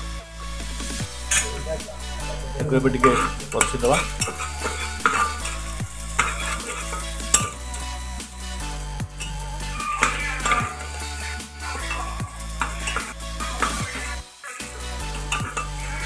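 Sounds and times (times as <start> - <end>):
background music with bass: 0.0 - 16.0
onions sizzling: 0.5 - 16.0
metal spatula scraping a pot: 1.0 - 8.3, 9.2 - 16.0.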